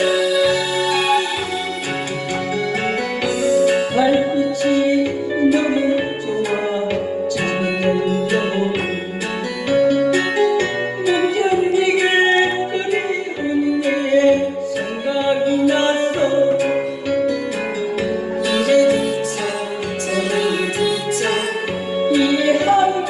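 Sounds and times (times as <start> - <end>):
person singing: 0.0 - 23.0.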